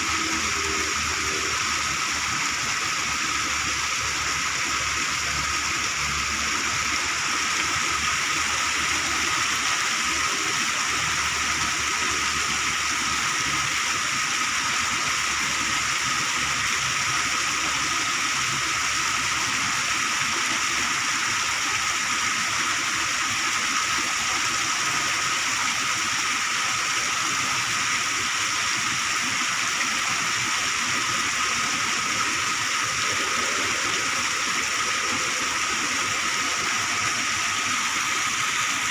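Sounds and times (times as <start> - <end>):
water gushing from culvert: 0.0 - 38.9.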